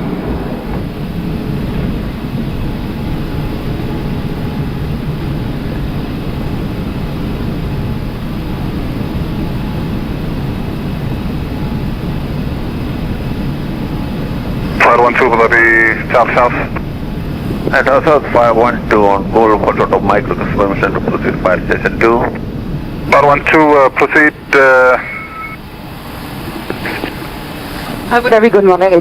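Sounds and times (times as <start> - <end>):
faint steady tones: 0.0 - 29.0
rumble of engines and airflow: 0.0 - 29.0.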